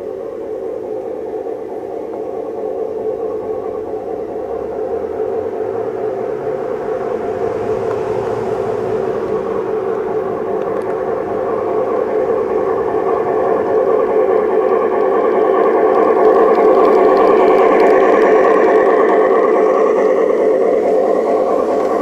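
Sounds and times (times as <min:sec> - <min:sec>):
model locomotive running on rails: 0:00.0 - 0:22.0.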